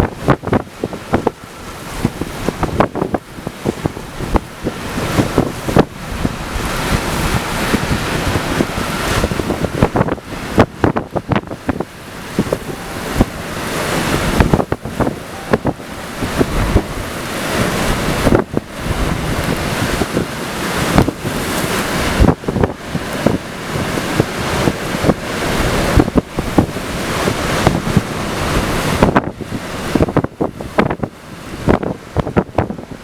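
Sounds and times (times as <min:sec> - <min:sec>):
strong gusting wind: 0:00.0 - 0:33.0
wind buffeting microphone: 0:00.0 - 0:33.0.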